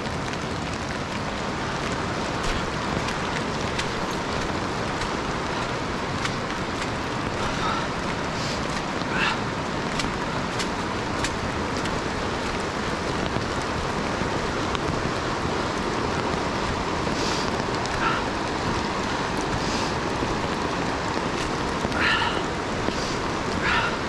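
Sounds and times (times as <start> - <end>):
river rapids rushing: 0.0 - 24.0
soft footsteps on wet trail: 0.0 - 24.0.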